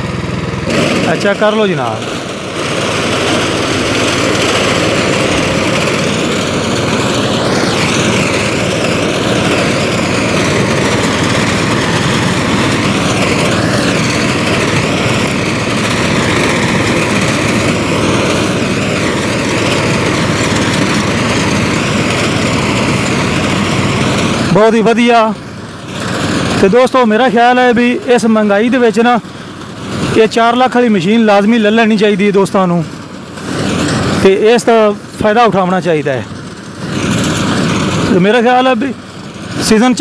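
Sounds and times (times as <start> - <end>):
small engine running under load: 0.0 - 40.0.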